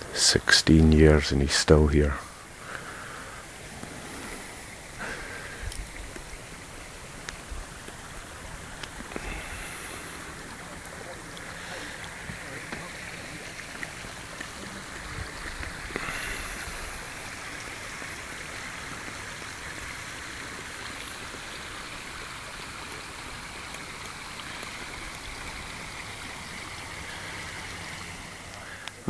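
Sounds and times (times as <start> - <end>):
stream running over stones: 0.0 - 29.0.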